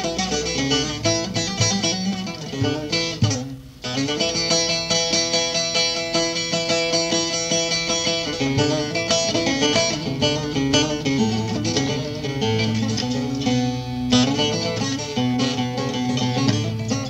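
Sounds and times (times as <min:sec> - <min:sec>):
long-necked lute plucked melody: 0:00.0 - 0:17.0.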